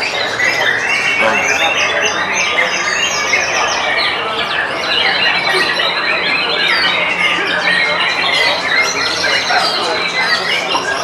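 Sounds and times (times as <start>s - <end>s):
chorus of songbirds: 0.0s - 11.0s.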